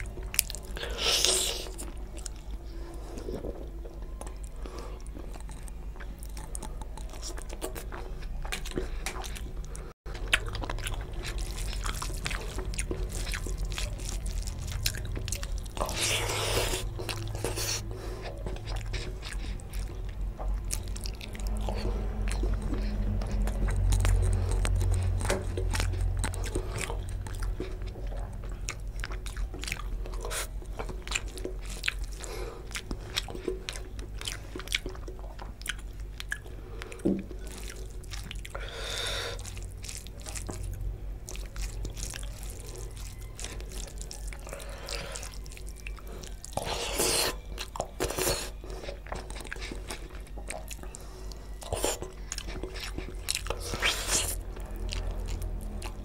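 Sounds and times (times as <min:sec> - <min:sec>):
chewing with wet mouth clicks: 0:00.0 - 0:56.0.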